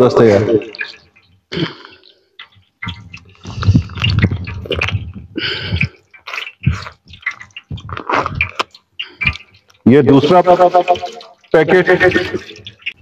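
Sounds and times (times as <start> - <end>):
oil glugging into pot: 0.0 - 13.0.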